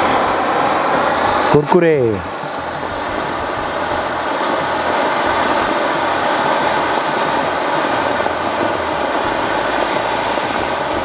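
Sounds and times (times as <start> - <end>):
firework sparks hissing: 0.0 - 11.0.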